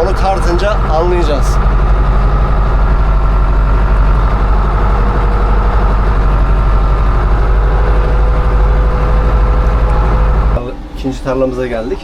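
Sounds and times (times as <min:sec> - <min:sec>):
diesel machinery engine running: 0:00.0 - 0:11.2.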